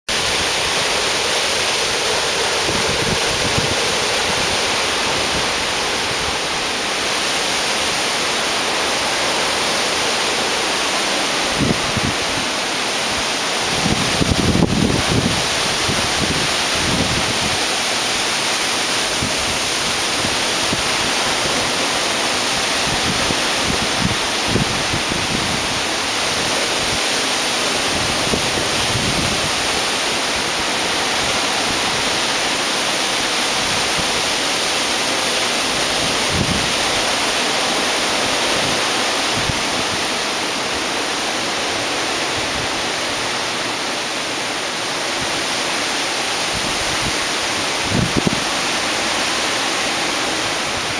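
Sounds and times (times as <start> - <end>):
storm wind rushing: 0.1 - 50.9
wind gusts buffeting microphone: 0.1 - 50.9.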